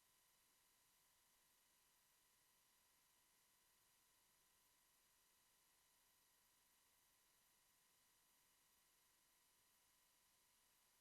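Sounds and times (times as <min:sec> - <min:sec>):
faint electronic hiss: 0:00.0 - 0:11.0.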